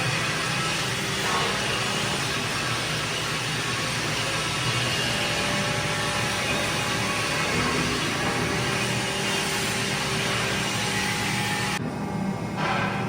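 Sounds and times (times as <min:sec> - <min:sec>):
plate bending machine humming: 0:00.0 - 0:13.0.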